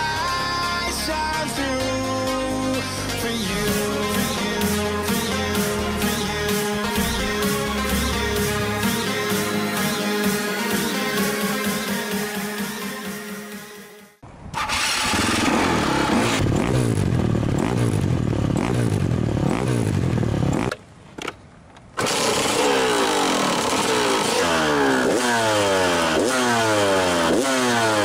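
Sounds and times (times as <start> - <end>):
dirt bike engine revving: 2.4 - 12.6, 14.6 - 20.8, 22.0 - 28.0.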